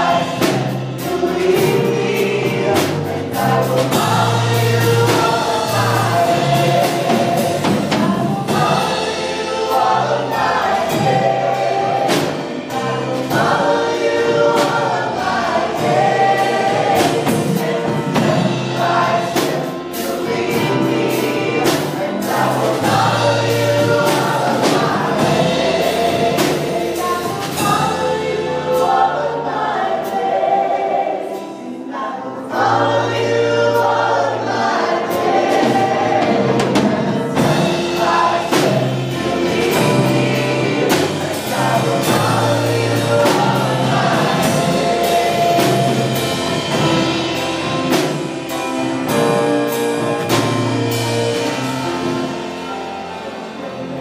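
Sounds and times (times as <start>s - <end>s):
drum strokes: 0.0s - 31.6s, 32.5s - 54.0s
voices singing together: 0.0s - 54.0s
worship band playing: 0.0s - 54.0s.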